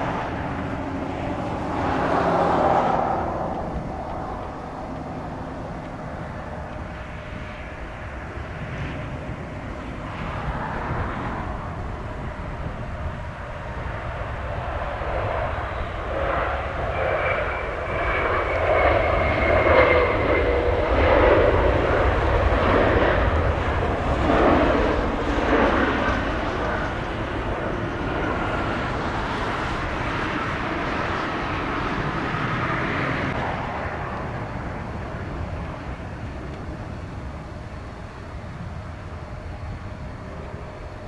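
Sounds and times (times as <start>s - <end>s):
jet engines rumbling and whining: 0.0s - 41.0s.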